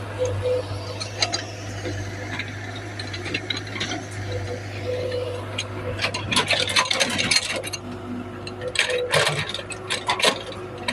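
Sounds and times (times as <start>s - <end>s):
excavator clinking and scraping: 0.0s - 10.9s
low engine hum: 0.0s - 10.9s.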